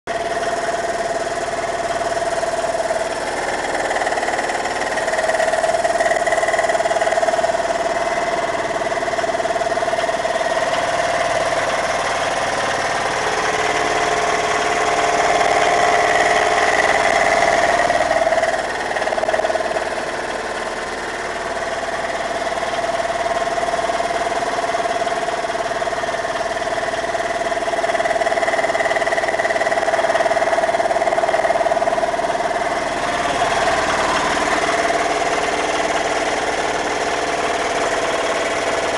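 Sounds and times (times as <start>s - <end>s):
boat engine running: 0.1s - 38.9s.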